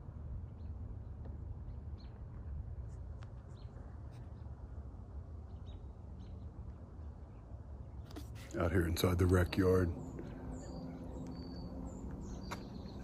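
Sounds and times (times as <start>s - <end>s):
low outdoor rumble: 0.0s - 13.0s
small birds chirping: 0.4s - 13.0s.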